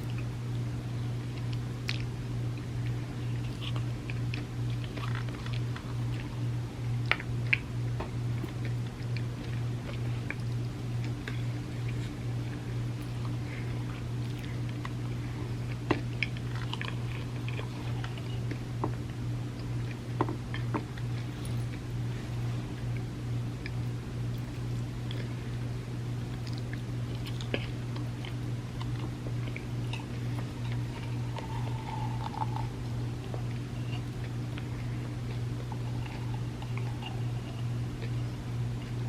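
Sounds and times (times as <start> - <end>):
chewing and crunching cookies: 0.0 - 39.0
steady low hum: 0.0 - 39.0.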